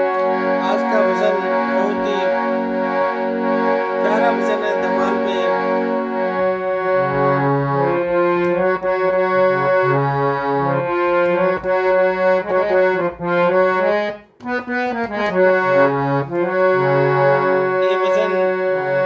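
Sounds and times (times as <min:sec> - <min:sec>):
harmonium folk melody: 0:00.0 - 0:19.0.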